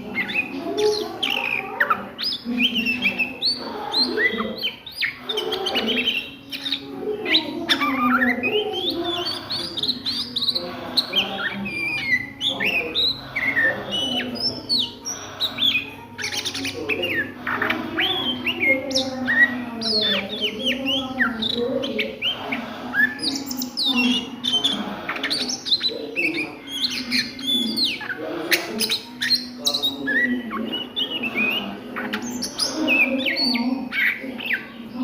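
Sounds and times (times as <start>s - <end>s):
bird singing varied song: 0.0s - 35.0s.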